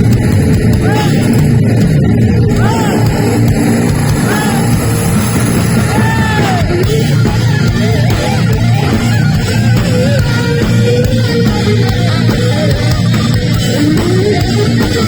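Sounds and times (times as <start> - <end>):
heavy metal band playing: 0.0 - 15.0
lead electric guitar: 0.0 - 15.0.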